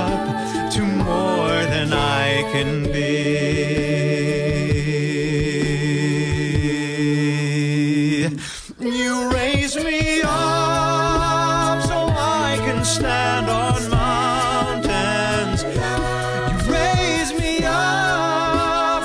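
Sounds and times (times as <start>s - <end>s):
a cappella voices singing in harmony: 0.0s - 19.0s.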